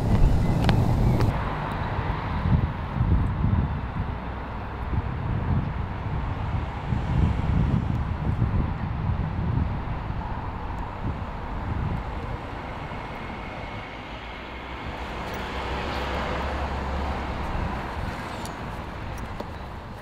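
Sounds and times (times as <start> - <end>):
vehicle passing: 0.0 - 3.1, 4.2 - 20.0
road traffic rushing: 0.0 - 20.0.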